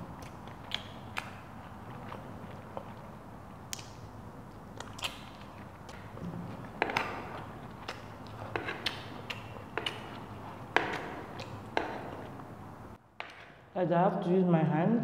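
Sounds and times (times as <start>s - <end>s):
soft chewing: 0.0s - 12.6s.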